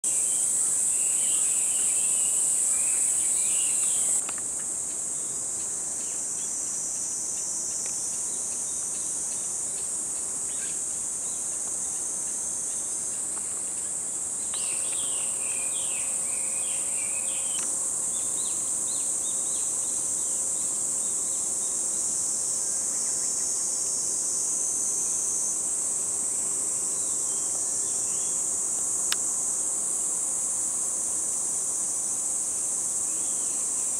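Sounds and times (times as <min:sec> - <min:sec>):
insect chirps: 0:00.0 - 0:33.9
insect chorus buzzing: 0:00.0 - 0:33.9.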